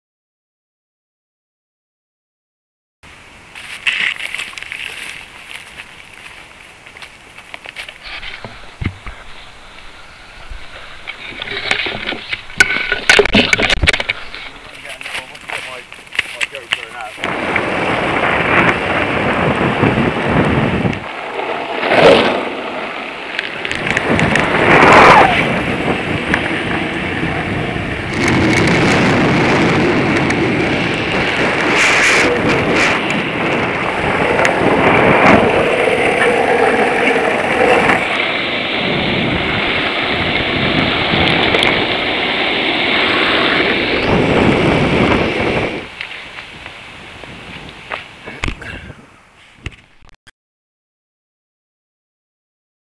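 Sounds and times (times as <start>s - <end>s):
skateboard wheels rolling on asphalt: 3.0s - 50.1s.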